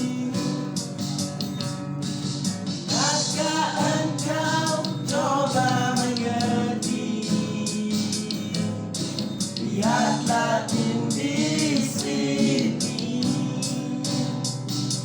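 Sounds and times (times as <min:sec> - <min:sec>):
person singing: 0:00.0 - 0:00.9, 0:02.9 - 0:14.7.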